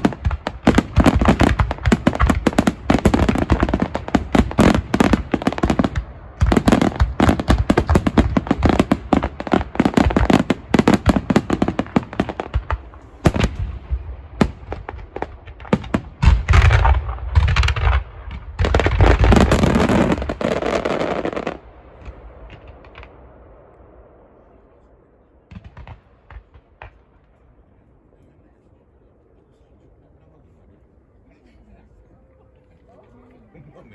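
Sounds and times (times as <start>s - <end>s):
deep fireworks booms: 0.0s - 27.8s
fireworks bangs and crackles: 0.0s - 27.8s.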